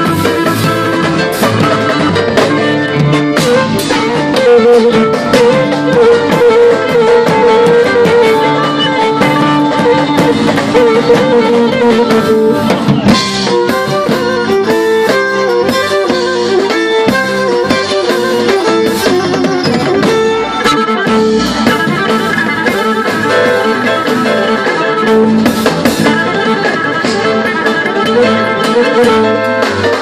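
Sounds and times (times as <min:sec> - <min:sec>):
drum kit: 0:00.0 - 0:30.0
strummed lute: 0:00.0 - 0:30.0
violin melody with vibrato: 0:00.0 - 0:30.0.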